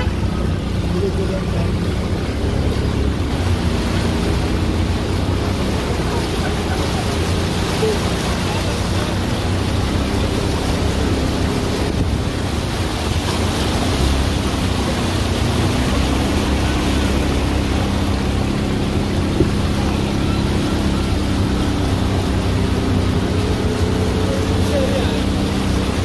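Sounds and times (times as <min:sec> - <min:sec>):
vehicle engine hum: 0:00.0 - 0:26.0
water splashing: 0:00.0 - 0:26.0.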